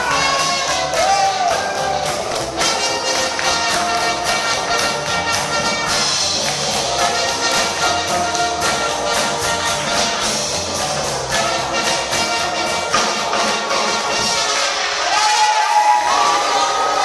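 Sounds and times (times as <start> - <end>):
live dance band with horns: 0.0 - 17.0
steady drumbeat: 0.0 - 17.0.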